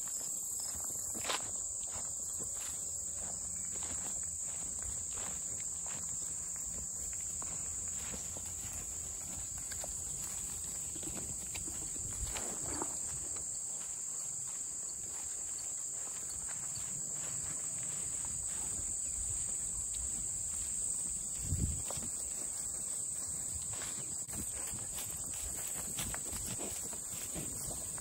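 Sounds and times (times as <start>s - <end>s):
footsteps through grass: 0.0s - 28.0s
high-pitched insect chorus: 0.0s - 28.0s.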